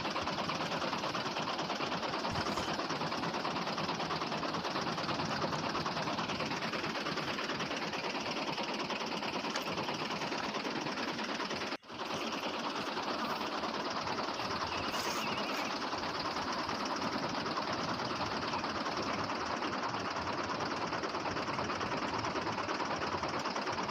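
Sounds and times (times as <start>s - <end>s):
small motor chattering: 0.0s - 20.6s.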